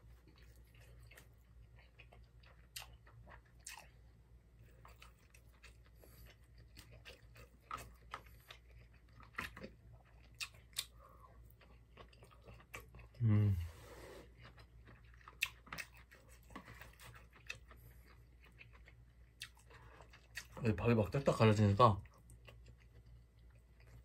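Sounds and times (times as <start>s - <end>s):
person chewing food: 0.0s - 20.6s, 22.0s - 24.0s.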